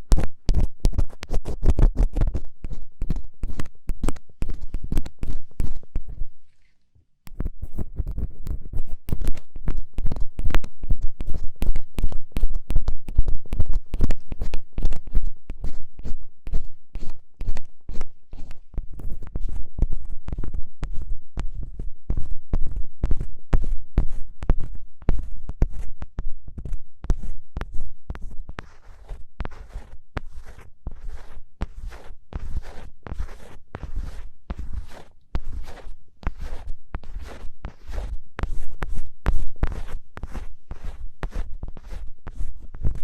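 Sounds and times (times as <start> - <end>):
ear pick scratching microphone: 0.0 - 6.5, 7.3 - 43.0.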